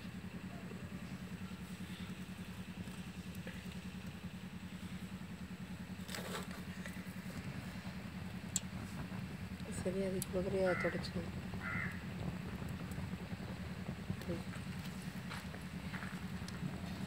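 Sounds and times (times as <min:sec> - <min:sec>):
engine running with even pulsing: 0:00.0 - 0:17.0.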